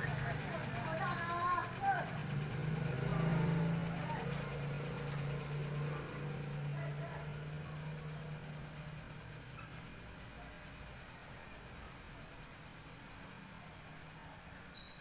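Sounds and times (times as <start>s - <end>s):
faint voices: 0.0s - 14.7s.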